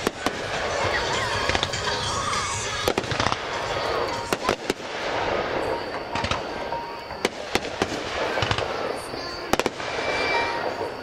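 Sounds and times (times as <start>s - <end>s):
crackling hiss: 0.0s - 11.0s
fireworks bangs: 0.0s - 11.0s.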